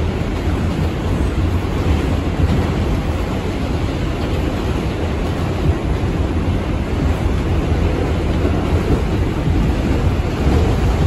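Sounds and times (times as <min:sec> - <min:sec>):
subway wheels rumbling on rail: 0:00.0 - 0:11.0.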